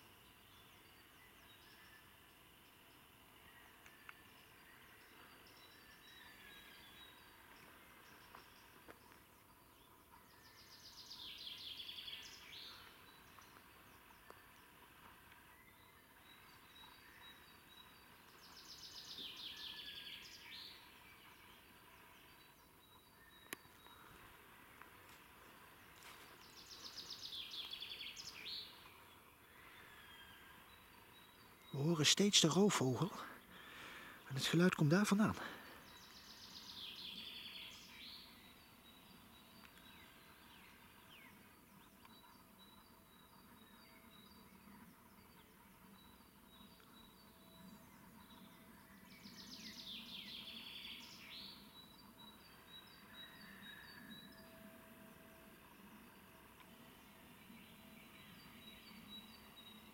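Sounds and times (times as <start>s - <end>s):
faint background birdsong: 0.0s - 59.9s.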